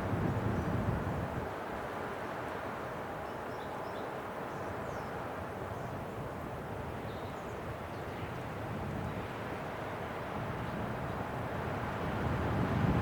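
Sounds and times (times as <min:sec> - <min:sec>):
rushing wind: 0:00.0 - 0:13.0.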